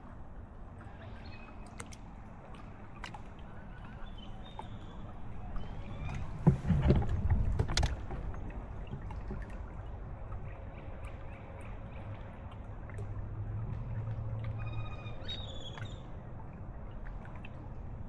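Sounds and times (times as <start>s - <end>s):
water sloshing around kayak: 0.0s - 18.0s.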